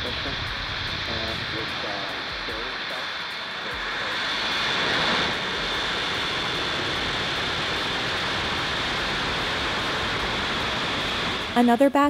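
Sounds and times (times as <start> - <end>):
rocket exhaust roar: 0.0 - 12.0.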